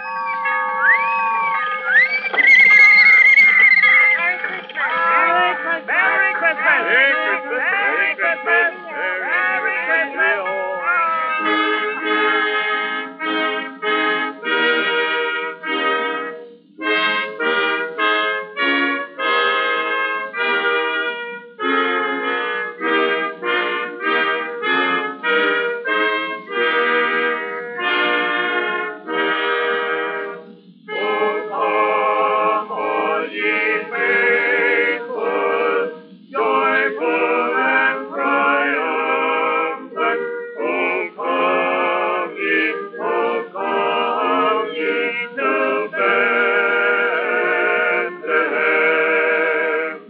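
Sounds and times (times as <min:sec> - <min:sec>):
orchestra music on old record: 0:00.0 - 0:50.0.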